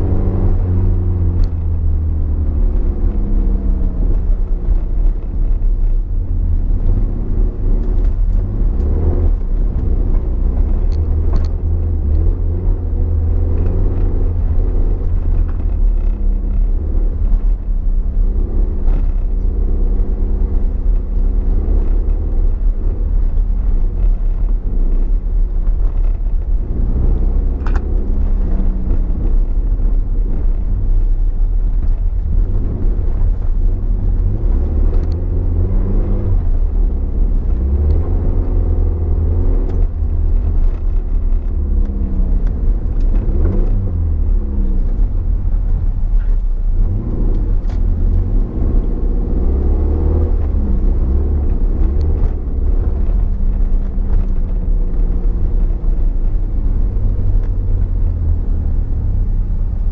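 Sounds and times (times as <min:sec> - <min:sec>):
car engine revving: 0:00.0 - 0:59.9
road and tyre rumble: 0:00.0 - 0:59.9.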